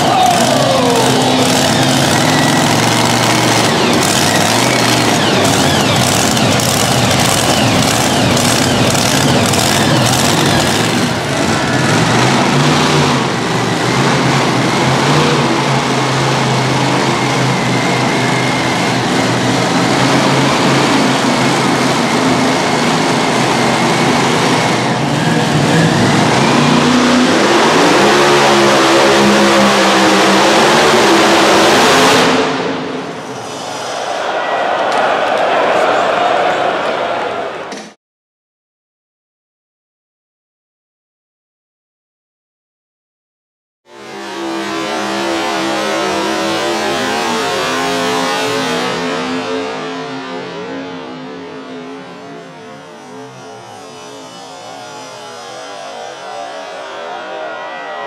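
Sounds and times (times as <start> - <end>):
engine revving up: 0.0 - 34.1, 43.9 - 57.0
tractor engines running loud: 0.0 - 34.1, 43.9 - 57.6.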